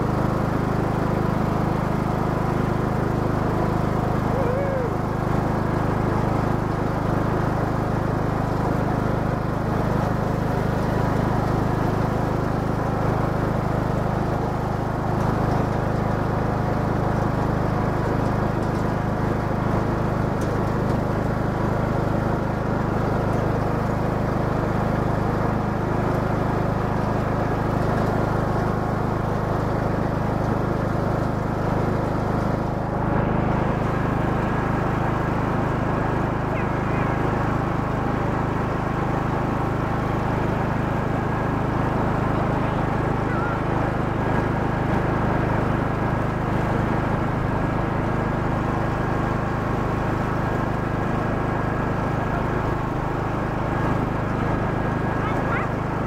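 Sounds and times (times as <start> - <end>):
riding lawn mower engine: 0.0 - 56.0.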